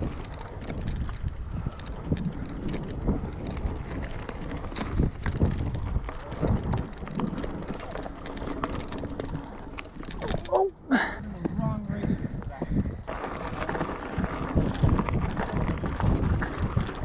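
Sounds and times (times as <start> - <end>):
bike rattles and clicks: 0.0 - 17.0
tyres rumbling on dirt: 0.0 - 17.0
wind on microphone: 0.0 - 17.0.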